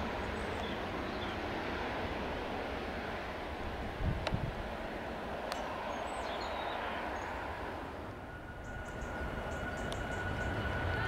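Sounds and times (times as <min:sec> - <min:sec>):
distant jet engine whine: 0:00.0 - 0:11.0
jet engine rumble: 0:00.0 - 0:11.0.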